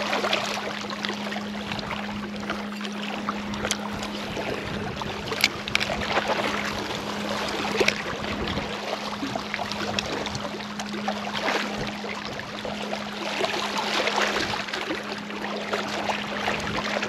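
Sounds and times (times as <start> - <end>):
small waves lapping on rocks: 0.0 - 17.0
steady low hum: 0.0 - 17.0.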